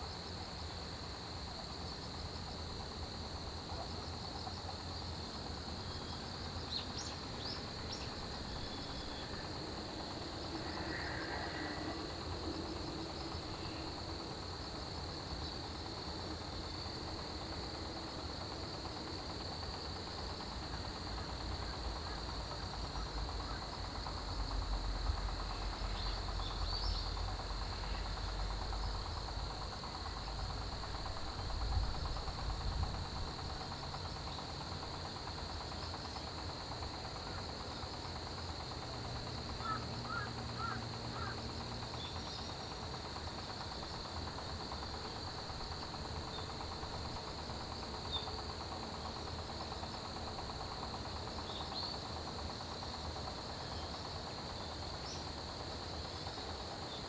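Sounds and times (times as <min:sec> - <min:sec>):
crickets and insects chirring: 0:00.0 - 0:57.0.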